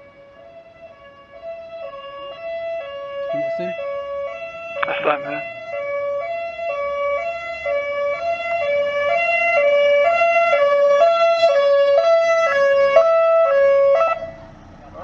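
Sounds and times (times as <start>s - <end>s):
police car two-tone siren: 0.0s - 14.6s.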